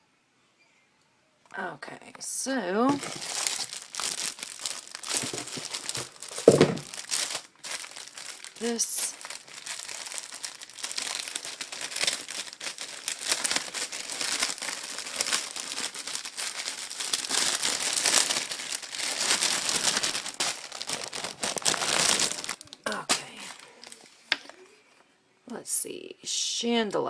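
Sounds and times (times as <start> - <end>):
packaging crinkling and rustling: 2.8 - 24.6.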